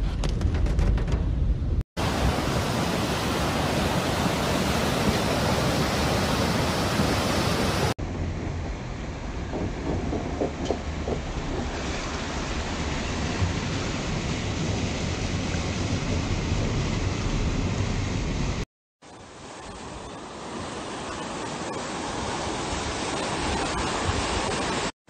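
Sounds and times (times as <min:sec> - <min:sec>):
floodwater rushing: 0:02.0 - 0:08.0, 0:10.3 - 0:24.9.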